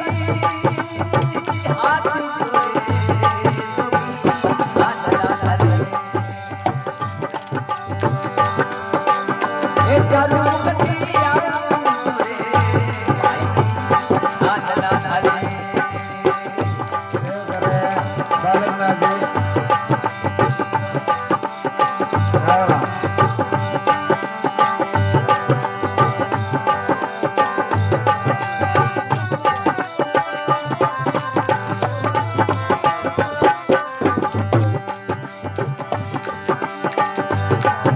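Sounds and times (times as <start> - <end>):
steady drum rhythm: 0.0 - 37.9
wavering folk melody: 0.0 - 37.9.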